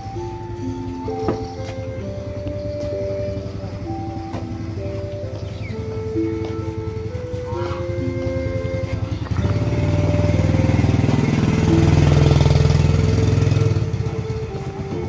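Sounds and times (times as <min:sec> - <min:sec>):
small motorcycle engine passing: 0:00.0 - 0:15.0.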